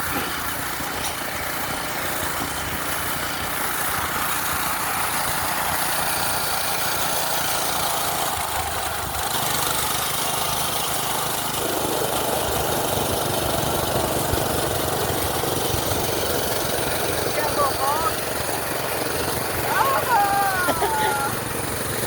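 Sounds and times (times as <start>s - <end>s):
minibike engine running: 0.0s - 22.0s.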